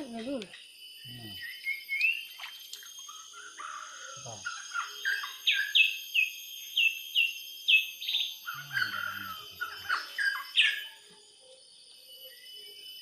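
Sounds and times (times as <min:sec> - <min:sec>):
songbird chirping: 0:00.0 - 0:12.5.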